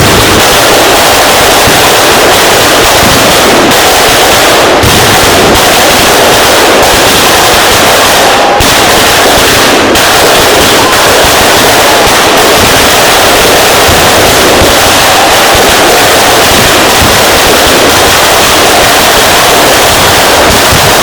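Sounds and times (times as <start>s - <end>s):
firecracker bursts: 0.0s - 21.0s.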